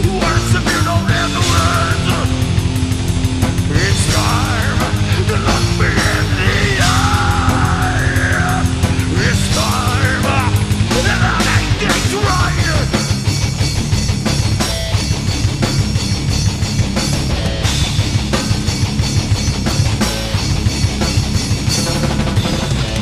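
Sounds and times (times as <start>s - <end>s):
heavy rock music: 0.0s - 23.0s.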